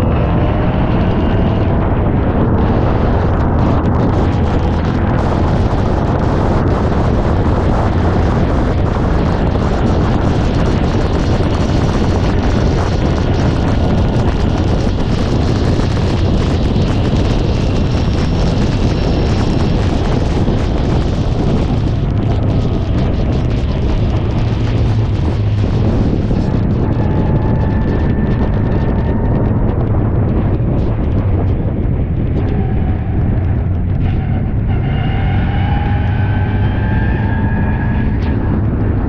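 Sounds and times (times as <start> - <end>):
race car engine running hard: 0.0 - 39.0
wind buffeting microphone: 0.0 - 39.0.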